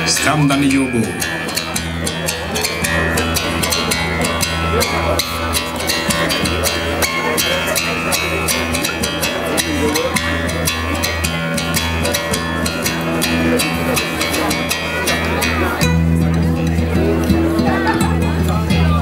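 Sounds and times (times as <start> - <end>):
bass line: 0.0 - 19.0
music with drums and percussion: 0.0 - 19.0.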